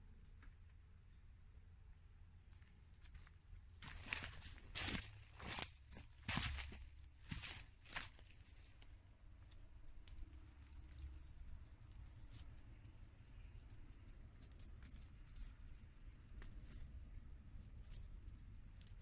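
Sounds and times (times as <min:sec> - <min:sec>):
sticks and twigs rustling: 0:02.6 - 0:19.0.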